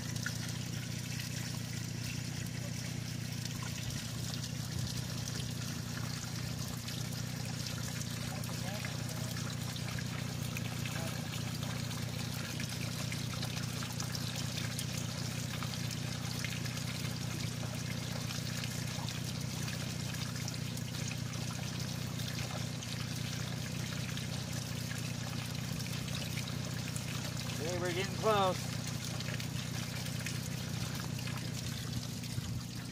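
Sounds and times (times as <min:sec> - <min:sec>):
steady low hum: 0:00.0 - 0:32.9
water trickling into puddle: 0:00.0 - 0:32.9.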